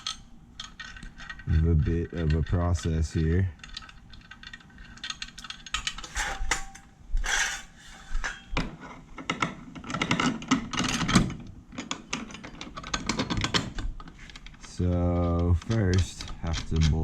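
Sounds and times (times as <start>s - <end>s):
metal hardware and tools clattering: 0.0s - 17.0s.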